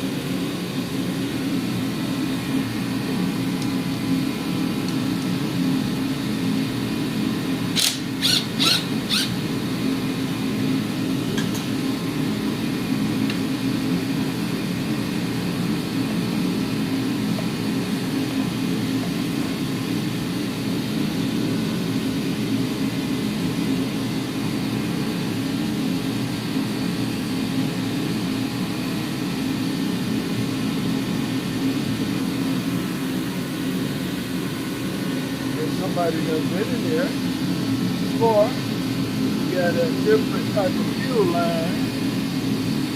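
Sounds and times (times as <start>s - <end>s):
low mechanical hum: 0.0s - 42.9s.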